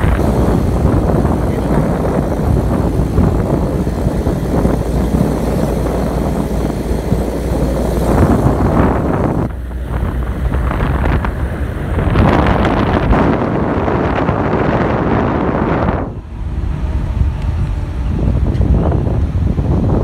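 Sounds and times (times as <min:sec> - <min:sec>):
moving vehicle rumble: 0:00.0 - 0:20.0
wind buffeting microphone: 0:00.0 - 0:20.0.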